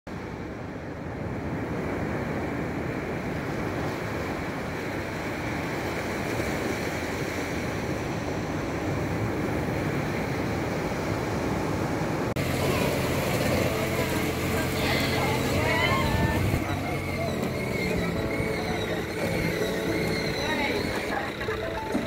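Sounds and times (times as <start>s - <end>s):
ocean surf breaking on beach: 0.1s - 22.0s
wind buffeting microphone: 0.2s - 22.0s.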